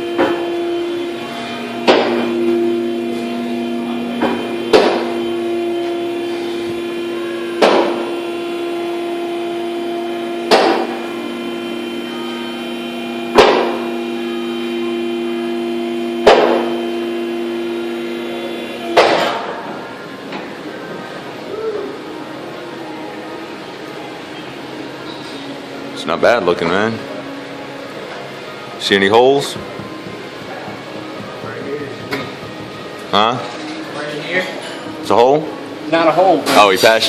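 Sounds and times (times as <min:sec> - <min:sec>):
lift motor humming: 0:00.0 - 0:26.0, 0:27.1 - 0:34.2.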